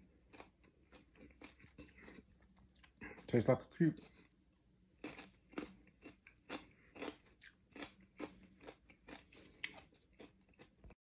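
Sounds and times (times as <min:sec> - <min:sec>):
cucumber crunching while chewed: 0:00.0 - 0:03.3, 0:05.0 - 0:11.0.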